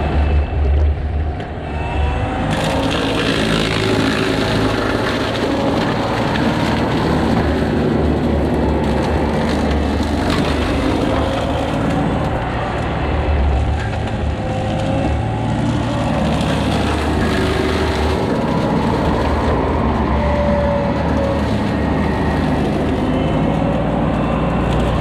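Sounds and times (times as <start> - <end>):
excavator engine under load: 0.0 - 25.0
brush cutter shredding brush: 2.4 - 25.0.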